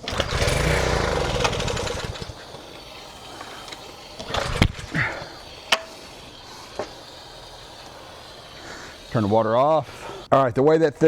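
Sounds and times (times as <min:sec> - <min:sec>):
small engine running and dying: 0:00.0 - 0:10.3.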